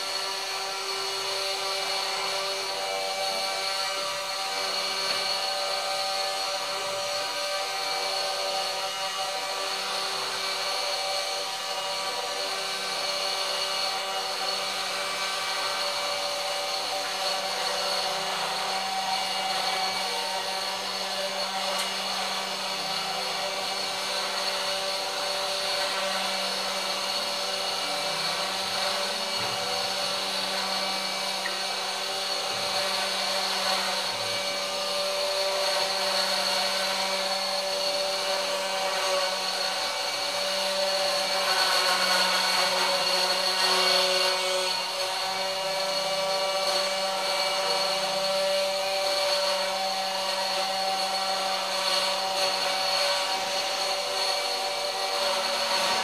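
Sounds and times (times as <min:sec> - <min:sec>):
router bit cutting fibreboard: 0:00.0 - 0:56.0
router spindle motor whine: 0:00.0 - 0:56.0.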